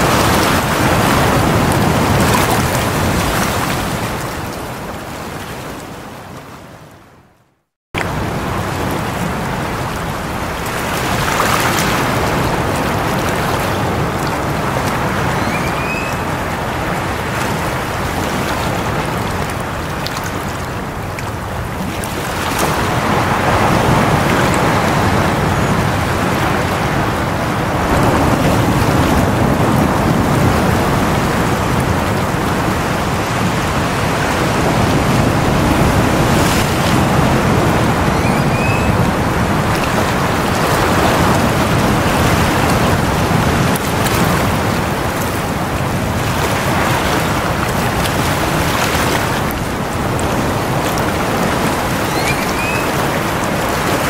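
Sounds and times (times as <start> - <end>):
waves breaking on rocky shore: 0.0 - 6.6, 8.0 - 54.0.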